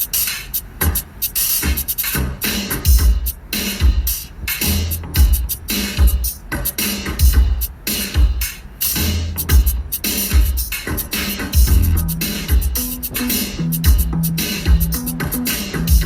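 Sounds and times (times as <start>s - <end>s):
electronic drum beat music: 0.0s - 16.0s.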